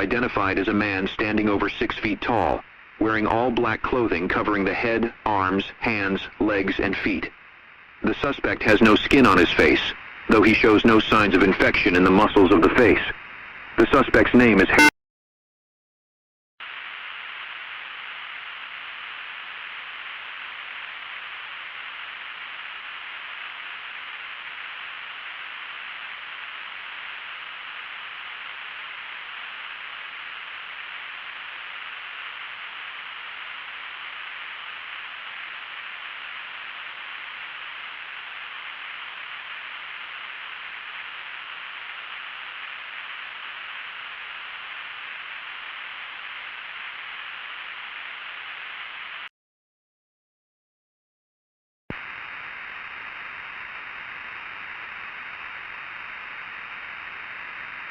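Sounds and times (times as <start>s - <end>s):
static hiss: 0.0s - 14.9s, 16.6s - 49.3s, 51.9s - 57.9s.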